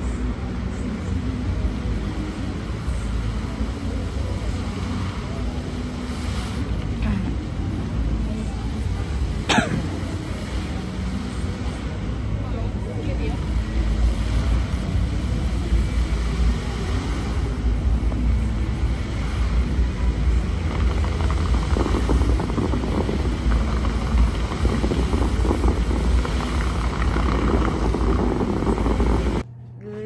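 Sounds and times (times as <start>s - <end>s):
fountain water jets rushing: 0.0s - 29.4s.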